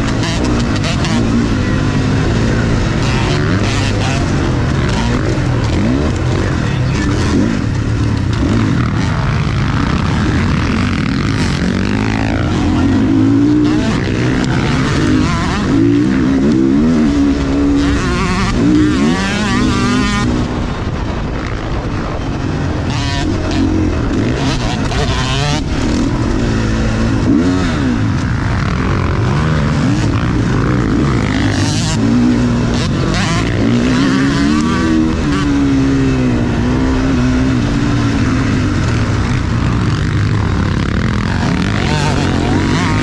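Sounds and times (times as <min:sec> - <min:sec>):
motocross bike engine revving: 0:00.0 - 0:43.0.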